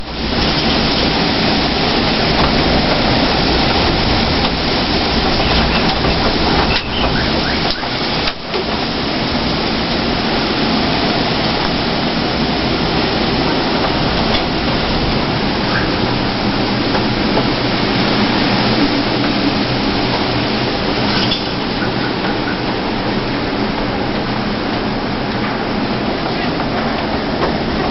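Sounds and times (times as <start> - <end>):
rain: 0.0 - 27.9
strong wind blowing: 0.0 - 27.9.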